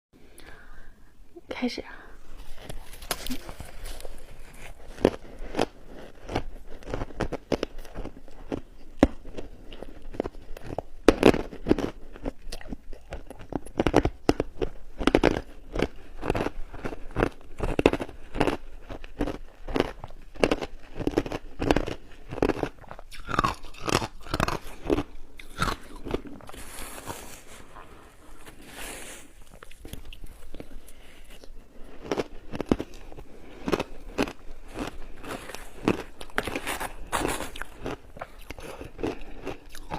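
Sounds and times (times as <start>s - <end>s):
person crunching shaved ice: 2.4s - 39.9s.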